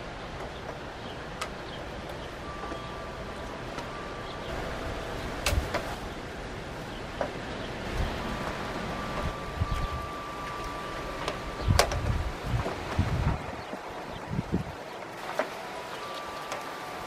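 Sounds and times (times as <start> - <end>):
steady rushing noise: 0.0 - 17.0
faint thin whine: 1.8 - 17.0.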